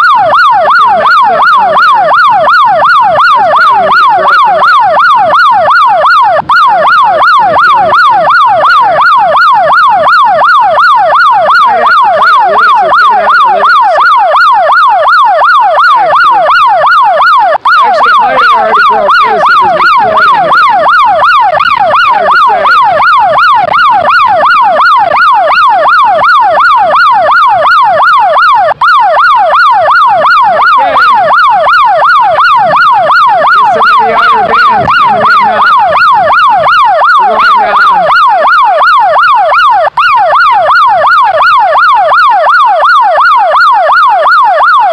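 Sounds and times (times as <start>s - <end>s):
siren-like electronic warbling tone: 0.0s - 44.9s.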